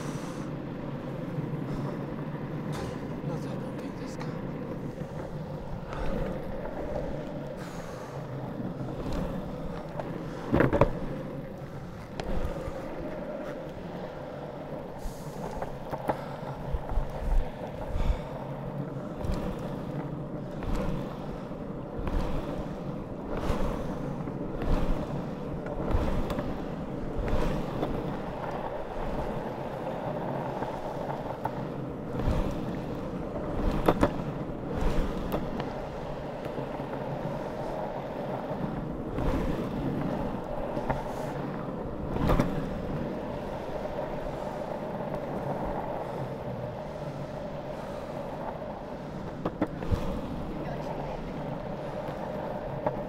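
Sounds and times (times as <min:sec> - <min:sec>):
skateboard wheels rolling on asphalt: 0:00.0 - 0:53.0
wind buffeting microphone: 0:00.0 - 0:53.0
wheels clicking over cracks: 0:00.4 - 0:53.0.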